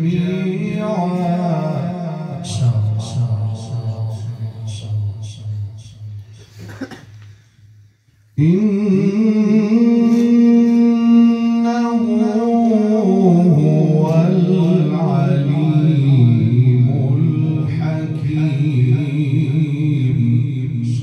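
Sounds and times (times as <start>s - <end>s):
man chanting melodically: 0.0s - 6.6s, 8.4s - 21.0s.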